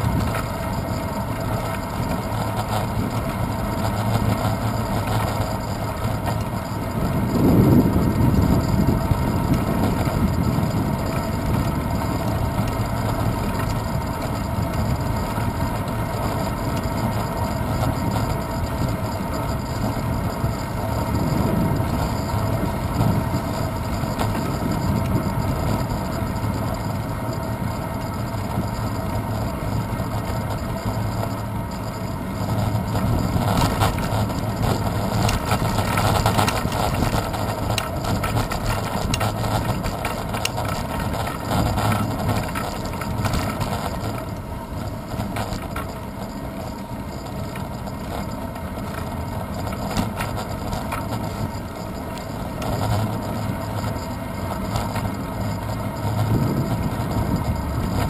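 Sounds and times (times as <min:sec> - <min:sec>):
wind noise: 0:00.0 - 0:46.0, 0:49.5 - 0:58.0
bicycle road rumble: 0:00.0 - 0:58.0
fine rattling clicks: 0:00.0 - 0:58.0.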